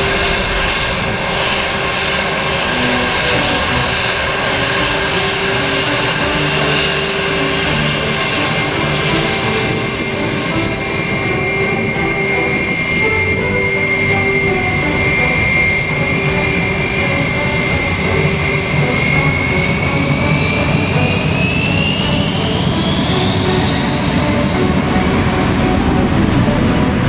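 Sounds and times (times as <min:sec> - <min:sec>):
jet engines whining: 0:00.0 - 0:27.0.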